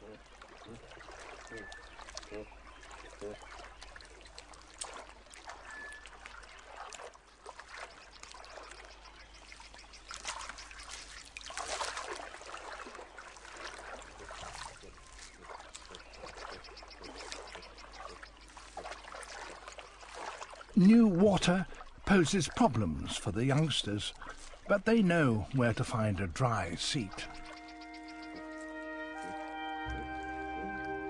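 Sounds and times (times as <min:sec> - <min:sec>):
water splashing and trickling: 0:00.0 - 0:31.0.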